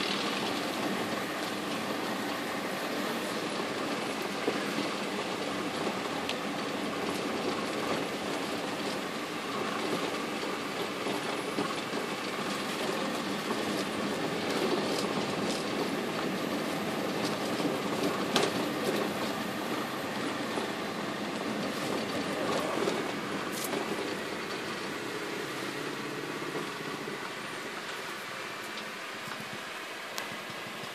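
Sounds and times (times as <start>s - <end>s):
rain on car roof: 0.0s - 30.9s
tyres on wet road: 0.0s - 30.9s.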